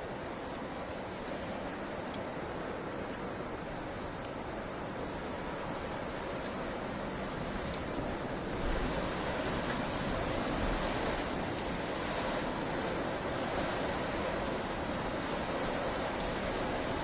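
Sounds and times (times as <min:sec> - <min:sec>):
fire crackles: 0:00.1 - 0:17.0.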